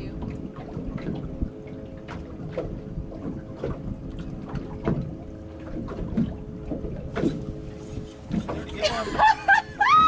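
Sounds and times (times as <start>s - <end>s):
steady low hum: 0.0s - 10.0s
waves slapping boat hull: 0.0s - 10.0s.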